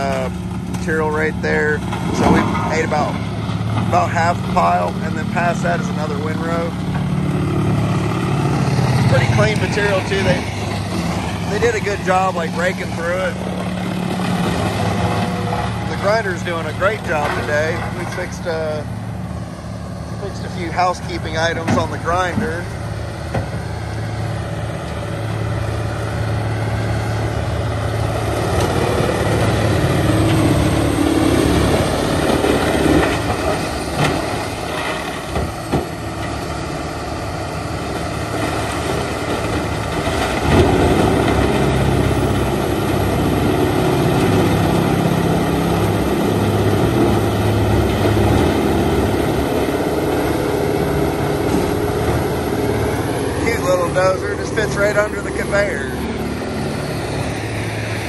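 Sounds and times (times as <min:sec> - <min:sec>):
grinder diesel engine drone: 0:00.0 - 0:58.0.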